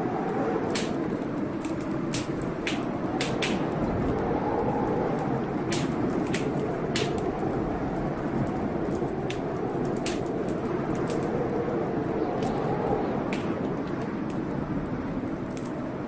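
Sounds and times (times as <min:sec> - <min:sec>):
fire crackling and popping: 0:00.0 - 0:16.0
rain rushing: 0:00.0 - 0:16.0.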